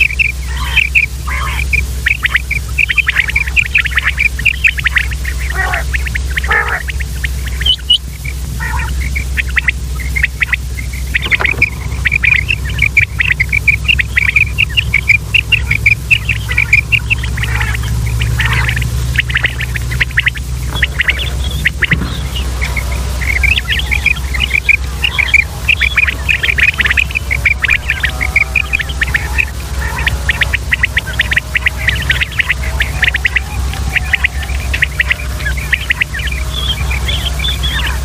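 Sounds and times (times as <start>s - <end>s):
quail chirping calls: 0.0s - 38.0s
steady low hum: 0.0s - 38.0s.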